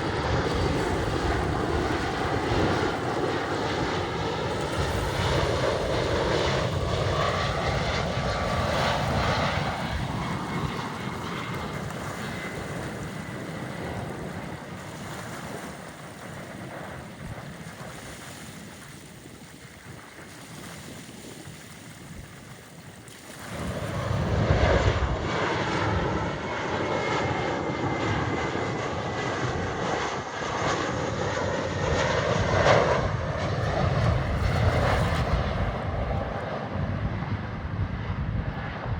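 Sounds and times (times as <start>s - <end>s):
aircraft engines loud and steady: 0.0s - 38.9s
airliner engines passing: 0.0s - 38.9s.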